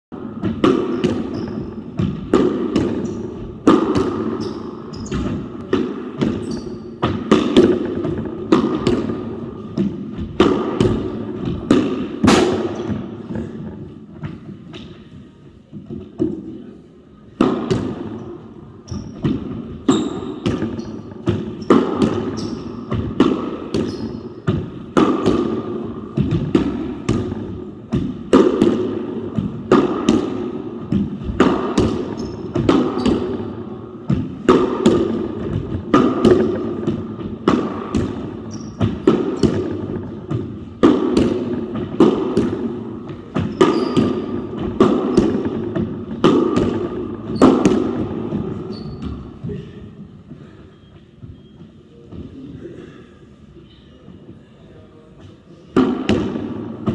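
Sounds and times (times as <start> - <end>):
squash ball hits echoing: 0.2 - 49.8, 55.6 - 56.9.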